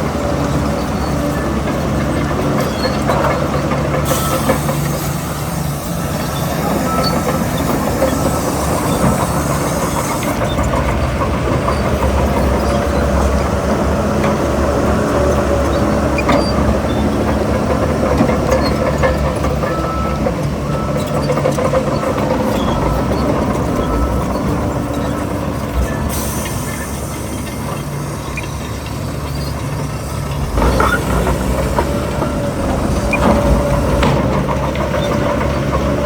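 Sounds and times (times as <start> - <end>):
diesel machinery rumbling: 0.0 - 36.0.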